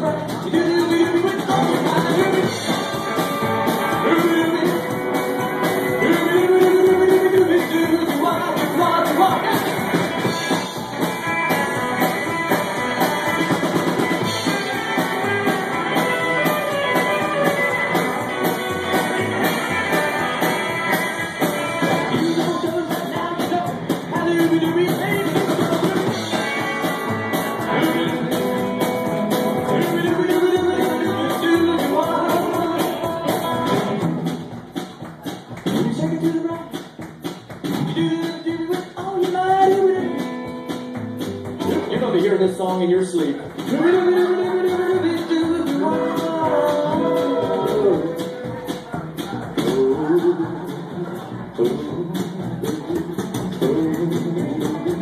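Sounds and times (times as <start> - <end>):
drum kit: 0.0 - 55.0
electric guitars: 0.0 - 55.0
stand-up bass: 0.0 - 55.0.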